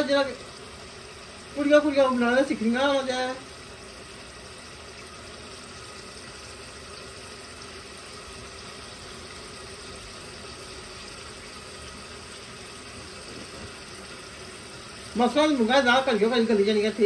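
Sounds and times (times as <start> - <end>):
pot of lentils boiling: 0.0 - 17.0.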